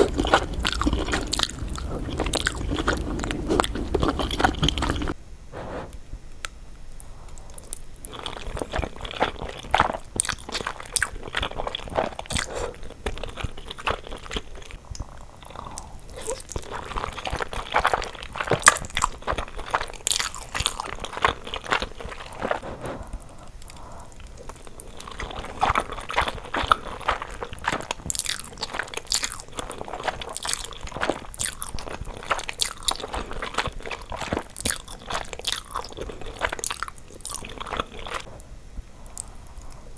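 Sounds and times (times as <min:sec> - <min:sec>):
close chewing and biting: 0:00.0 - 0:05.2, 0:07.3 - 0:38.4.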